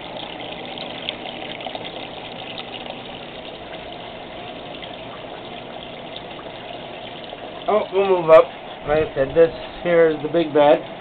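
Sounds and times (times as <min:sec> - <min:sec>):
pump humming: 0:00.0 - 0:11.0
water rushing in fish tank: 0:00.0 - 0:11.0.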